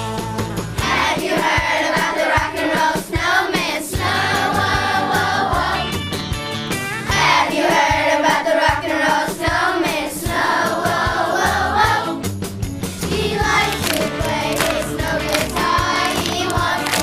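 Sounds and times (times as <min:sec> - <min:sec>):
instrumental accompaniment with beat: 0:00.0 - 0:17.0
children's choir singing: 0:00.8 - 0:05.9, 0:07.1 - 0:12.2, 0:13.0 - 0:17.0.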